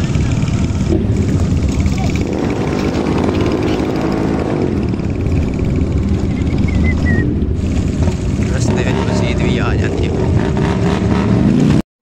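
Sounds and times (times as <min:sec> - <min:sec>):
wind noise on microphone: 0:00.0 - 0:10.6
road rumble: 0:00.0 - 0:11.8
vehicle engine running: 0:00.0 - 0:11.8.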